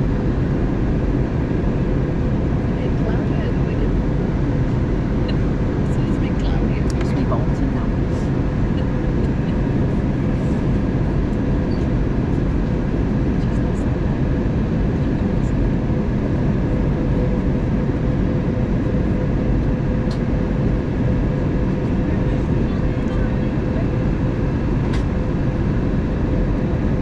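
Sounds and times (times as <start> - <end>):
airflow rushing in aircraft cabin: 0.0 - 27.0
engine hum: 0.0 - 27.0.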